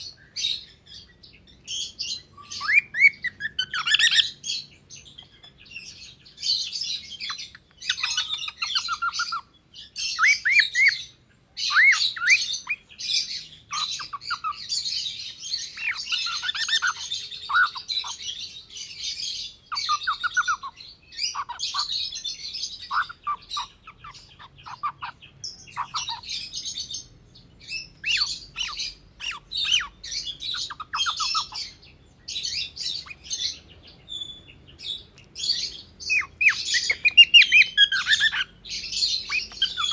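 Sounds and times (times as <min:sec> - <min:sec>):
cockatiel chirping and squawking: 0:01.7 - 0:39.9.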